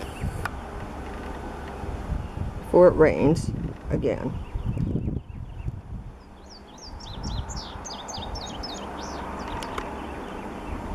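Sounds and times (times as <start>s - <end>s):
songbird chirping: 0.0s - 10.9s
steady low rumble: 0.0s - 10.9s.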